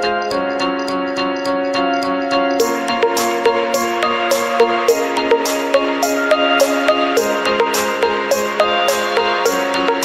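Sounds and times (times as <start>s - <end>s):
plucked melody notes: 0.0s - 10.0s.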